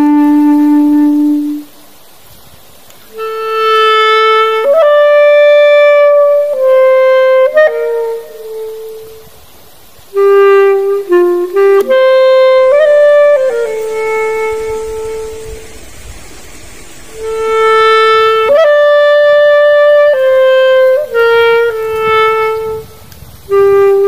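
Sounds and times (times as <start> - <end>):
slow solo wind instrument melody: 0.0 - 24.0.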